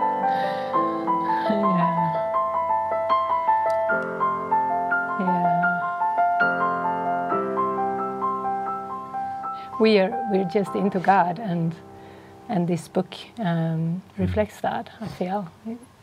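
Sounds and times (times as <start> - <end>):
background piano music: 0.0 - 14.6.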